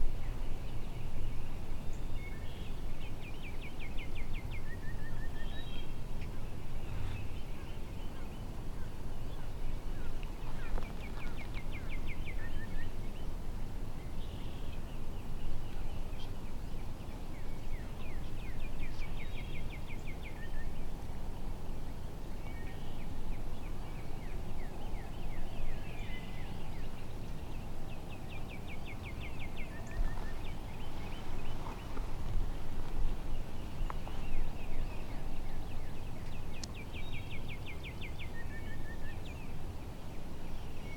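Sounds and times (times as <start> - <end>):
birdsong: 0.0 - 40.9.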